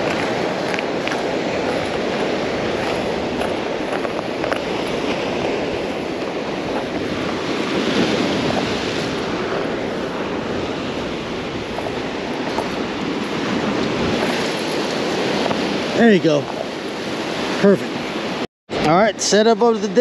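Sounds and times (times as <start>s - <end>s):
wind buffeting microphone: 0.0s - 18.4s
ocean surf washing onto rocks: 0.0s - 20.0s.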